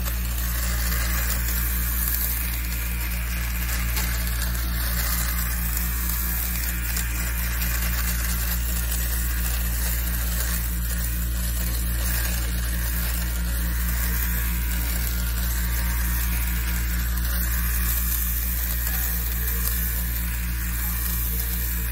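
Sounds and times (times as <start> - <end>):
small electric motor humming: 0.0 - 21.9.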